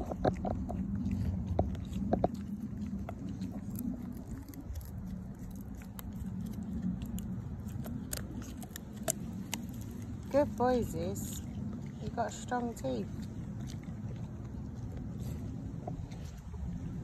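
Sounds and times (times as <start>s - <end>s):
teeth cracking on wood: 0.0s - 10.5s, 13.1s - 16.8s
low steady rumble: 0.0s - 17.0s.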